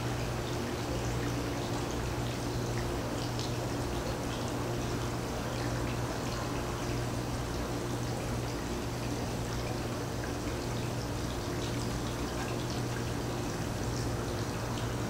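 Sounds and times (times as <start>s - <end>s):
low steady hum: 0.0s - 15.0s
water running and trickling: 0.0s - 15.0s.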